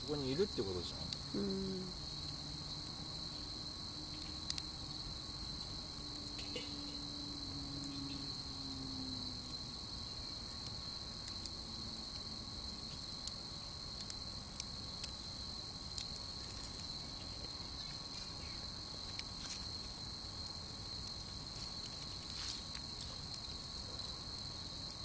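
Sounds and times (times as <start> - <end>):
campfire crackling: 0.0 - 25.0
crickets chirping: 0.0 - 25.0.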